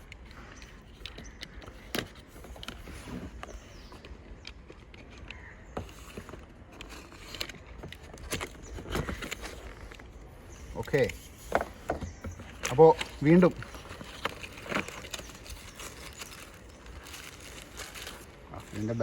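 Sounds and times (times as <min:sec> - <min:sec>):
cardboard packaging being opened: 0:00.0 - 0:19.0.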